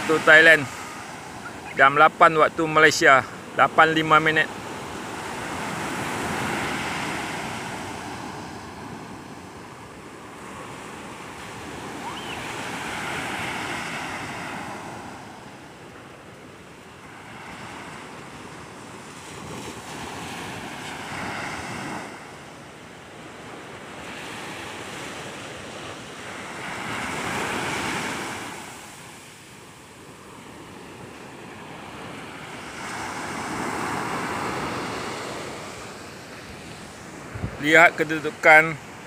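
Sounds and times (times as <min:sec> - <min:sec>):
surf waves breaking on beach: 0:00.0 - 0:39.0.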